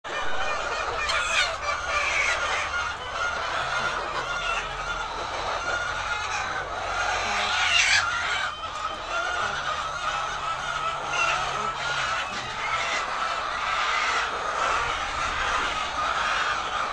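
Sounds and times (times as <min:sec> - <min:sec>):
hens clucking: 0:00.0 - 0:16.9.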